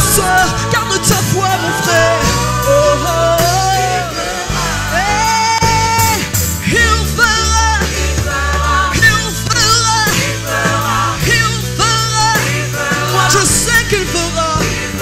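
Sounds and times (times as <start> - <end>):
gospel group singing: 0.0 - 15.0
keyboard: 0.0 - 15.0.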